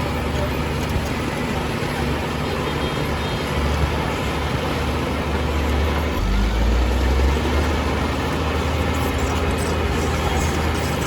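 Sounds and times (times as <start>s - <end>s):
heavy diesel engine rumbling: 0.0s - 11.0s.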